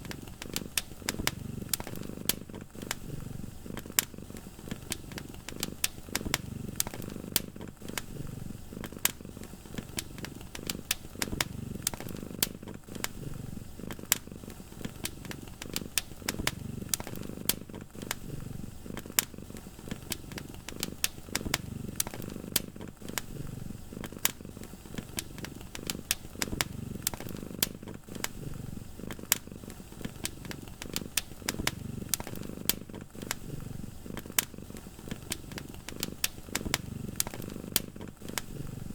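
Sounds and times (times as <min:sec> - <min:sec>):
cat purring: 0:00.0 - 0:38.9
fire crackling and popping: 0:00.0 - 0:38.9.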